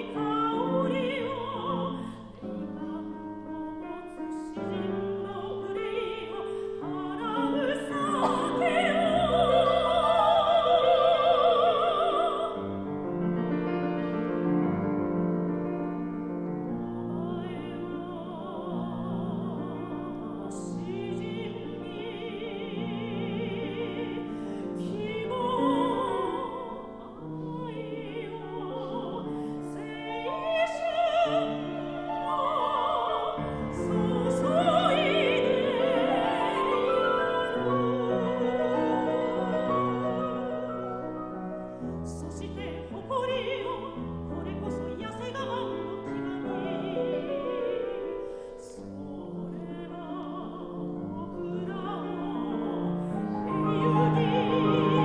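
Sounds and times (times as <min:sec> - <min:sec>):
grand piano accompaniment: 0:00.0 - 0:55.0
soprano singing with vibrato: 0:00.0 - 0:55.0.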